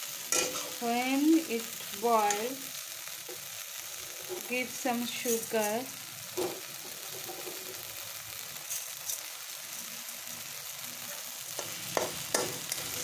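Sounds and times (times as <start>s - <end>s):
food sizzling in a metal pan: 0.0s - 13.0s.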